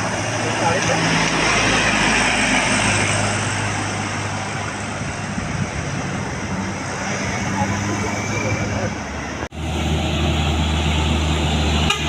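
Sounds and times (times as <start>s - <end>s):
road traffic engine hum: 0.0s - 12.0s.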